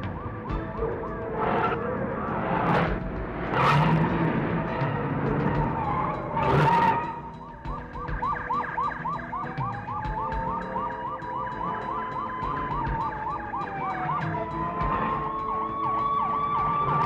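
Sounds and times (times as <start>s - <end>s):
fast yelping siren: 0.0s - 3.0s, 3.6s - 17.0s
wailing siren: 0.0s - 17.0s.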